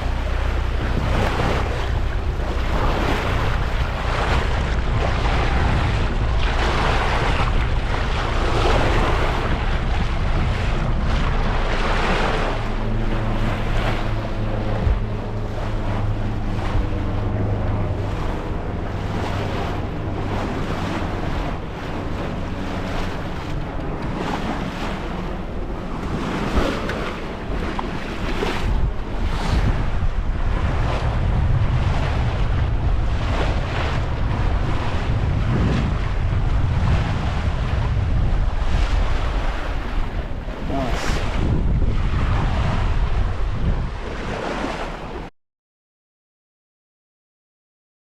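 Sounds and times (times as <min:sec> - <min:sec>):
water rushing along hull: 0:00.0 - 0:45.3
wind buffeting microphone: 0:00.0 - 0:45.3.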